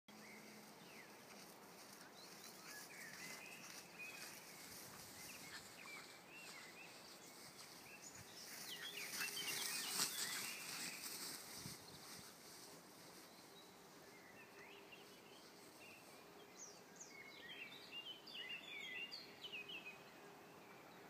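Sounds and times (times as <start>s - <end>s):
birds chirping: 0.1s - 21.0s.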